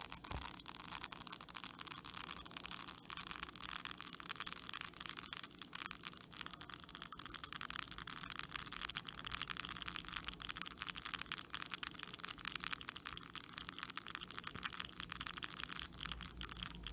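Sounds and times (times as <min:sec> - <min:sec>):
termites clicking in wood: 0:00.0 - 0:16.9.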